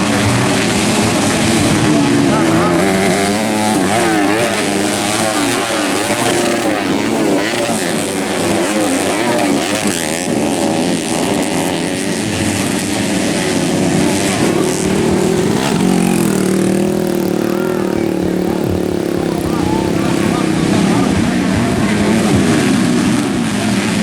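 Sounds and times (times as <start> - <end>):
dirt bike engines racing: 0.0 - 24.0.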